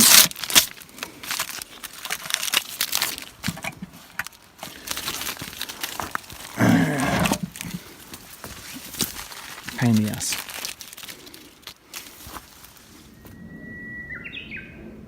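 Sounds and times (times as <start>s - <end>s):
rustling and crackling: 0.0s - 13.4s.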